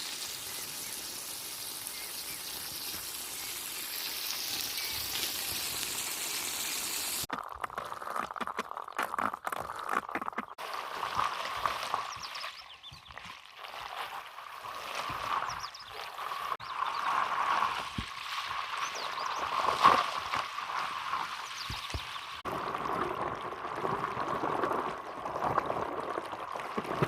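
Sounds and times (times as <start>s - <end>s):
water flowing through a pipe: 0.0s - 27.0s.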